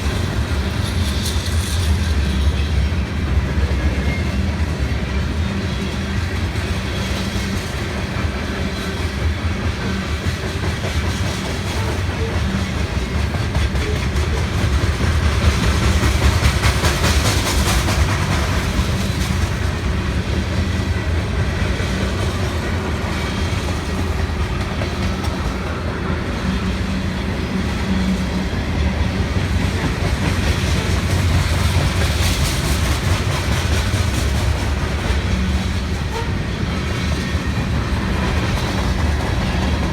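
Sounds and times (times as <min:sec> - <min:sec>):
freight train rumbling past: 0:00.0 - 0:39.9
wheels clacking over rail joints: 0:00.0 - 0:39.9
rail hiss: 0:05.9 - 0:39.9.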